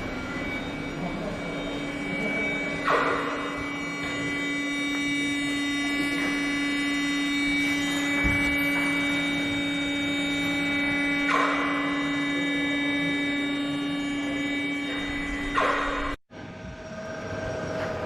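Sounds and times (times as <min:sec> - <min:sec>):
electrical machinery hum: 0:00.0 - 0:18.0
high whine: 0:00.0 - 0:18.0.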